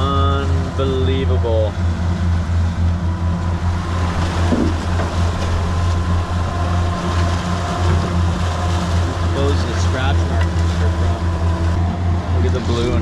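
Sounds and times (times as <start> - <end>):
boat engine droning: 0.0 - 13.0
faint steady whine: 0.0 - 13.0.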